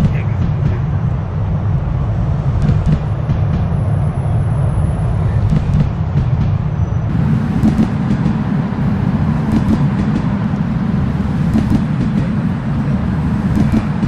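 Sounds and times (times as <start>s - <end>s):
railcar engine and wheels rumbling: 0.0s - 14.0s.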